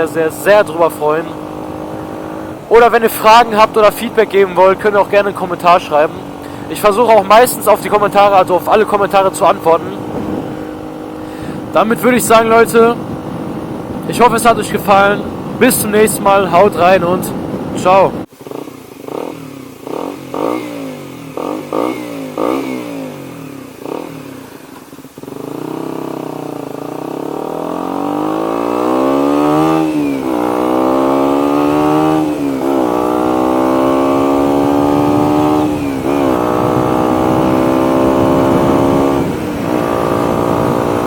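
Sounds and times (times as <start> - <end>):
motorcycle accelerating through gears: 0.0 - 41.0
motorcycle engine revving: 0.0 - 41.0.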